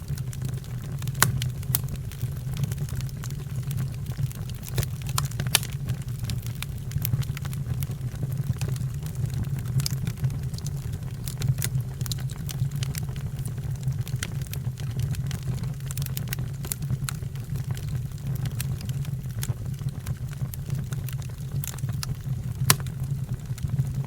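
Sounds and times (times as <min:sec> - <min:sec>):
low rumble of fire: 0:00.0 - 0:24.0
wood fire crackling and popping: 0:00.0 - 0:24.0.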